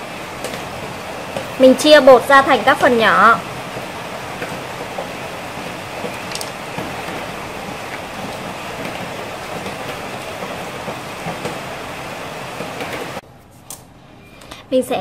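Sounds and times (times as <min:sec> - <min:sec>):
steady rain-like hiss: 0:00.0 - 0:13.2.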